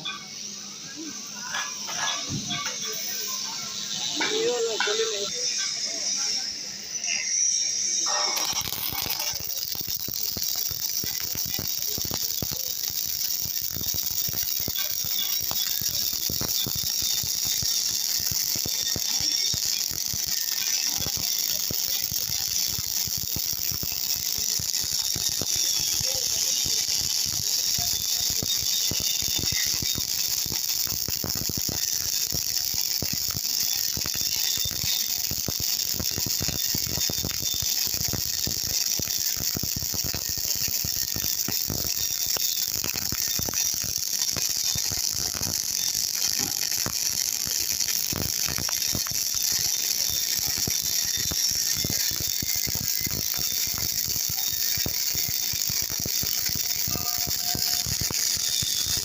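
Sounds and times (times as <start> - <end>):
welding arc crackling: 0.0 - 59.0.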